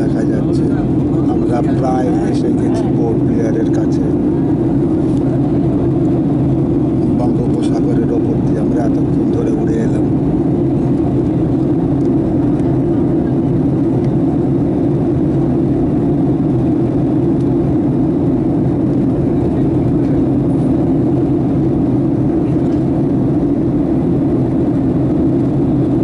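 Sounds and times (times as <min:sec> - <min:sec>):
airliner cabin engine drone: 0:00.0 - 0:26.0.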